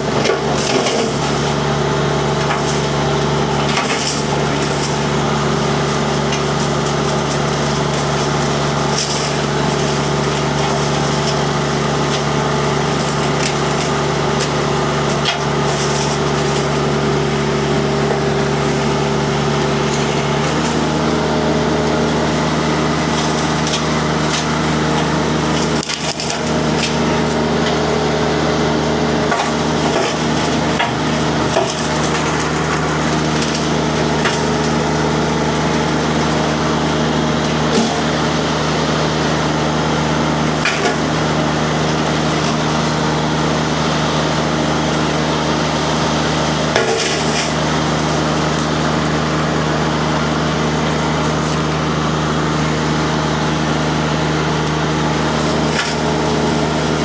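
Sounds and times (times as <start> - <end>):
wood cracking and splintering: 0.0 - 28.0, 28.9 - 57.0
diesel engine running hard: 0.0 - 57.0
mulcher spinning through brush: 0.0 - 57.0.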